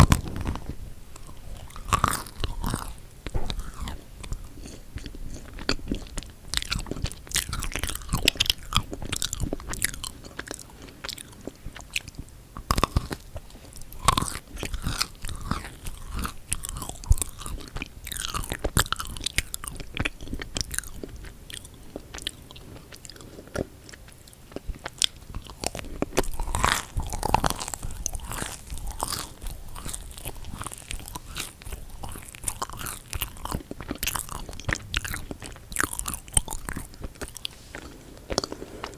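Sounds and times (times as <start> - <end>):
biting crunchy cookies: 0.0 - 38.9
sticky chewing: 0.0 - 38.9.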